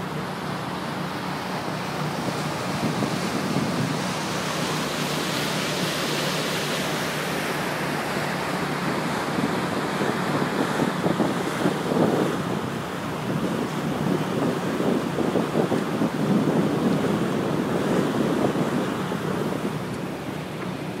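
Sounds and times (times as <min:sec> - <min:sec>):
low engine hum: 0:00.0 - 0:21.0
water rushing past boat hull: 0:00.0 - 0:21.0
wind buffeting microphone: 0:01.8 - 0:06.0, 0:08.2 - 0:21.0.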